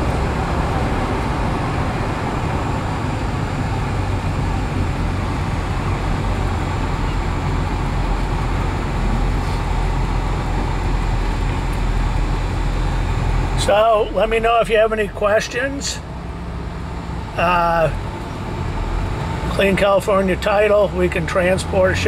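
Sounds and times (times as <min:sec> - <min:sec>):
car engine rumbling: 0:00.0 - 0:22.0
road noise with tyre hiss: 0:00.0 - 0:22.0.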